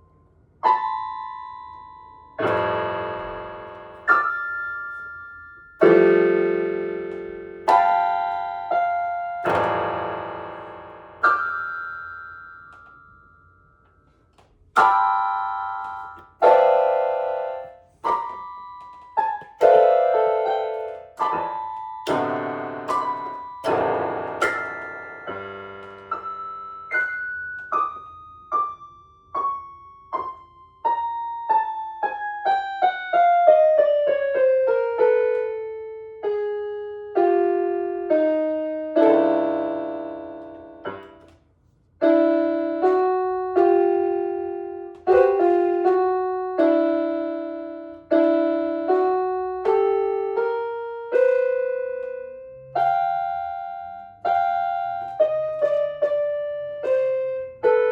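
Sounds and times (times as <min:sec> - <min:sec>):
solo piano: 0:00.0 - 0:57.9.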